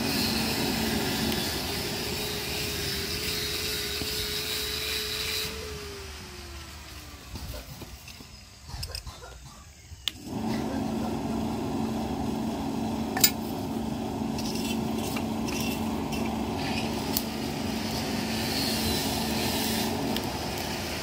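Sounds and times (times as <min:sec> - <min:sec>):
forge blower humming: 0:00.0 - 0:08.0, 0:10.0 - 0:21.0.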